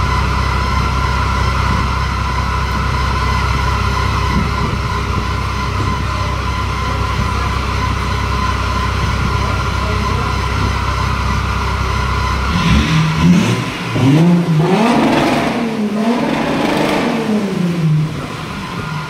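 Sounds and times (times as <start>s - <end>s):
diesel engine revving: 0.0s - 19.0s.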